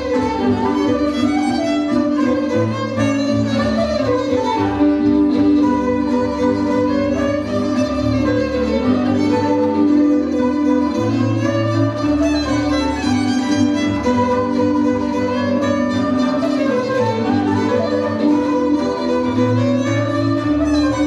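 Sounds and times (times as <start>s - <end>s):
double bass line: 0.0s - 21.0s
fiddle lead: 0.0s - 21.0s
folk band playing: 0.0s - 21.0s.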